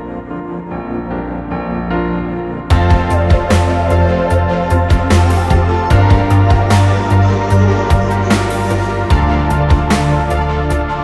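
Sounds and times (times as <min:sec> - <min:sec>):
sustained low bass: 0:00.0 - 0:11.0.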